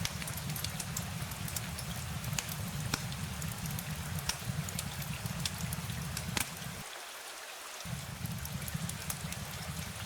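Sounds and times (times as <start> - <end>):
raindrops ticking: 0.0 - 6.8, 7.9 - 10.0
steady rain hiss: 0.0 - 10.0.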